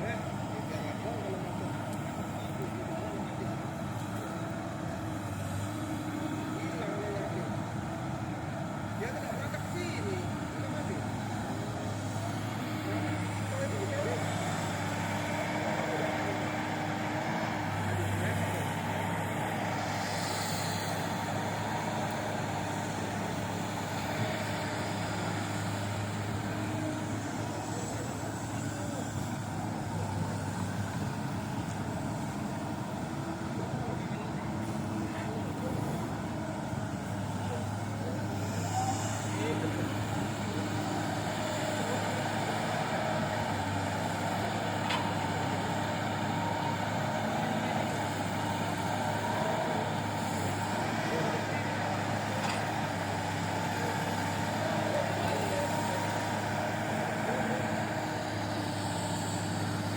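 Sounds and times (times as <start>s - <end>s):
diesel excavator engine running: 0.0s - 59.9s.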